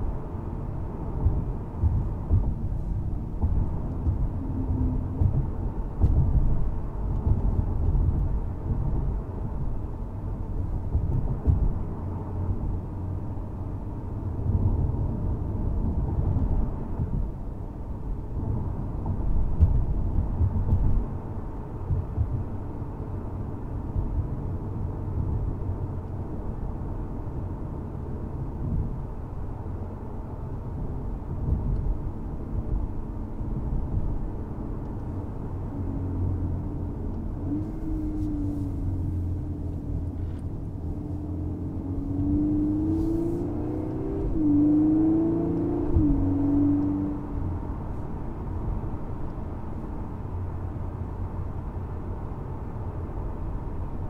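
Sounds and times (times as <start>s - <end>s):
car engine tyre and wind noise: 0.0s - 54.0s.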